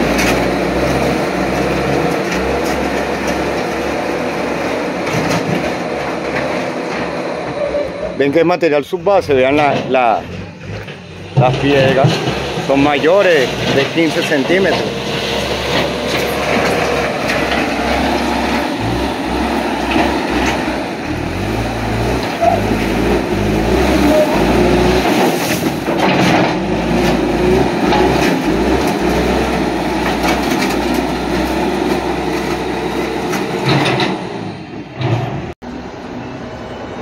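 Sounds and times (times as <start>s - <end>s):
diesel engine under load: 0.0s - 37.0s.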